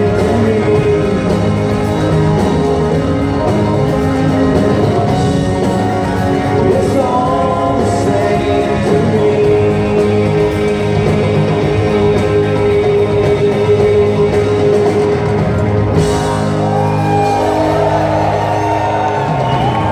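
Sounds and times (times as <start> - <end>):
person singing: 0.0 - 16.6
live rock band playing: 0.0 - 19.9.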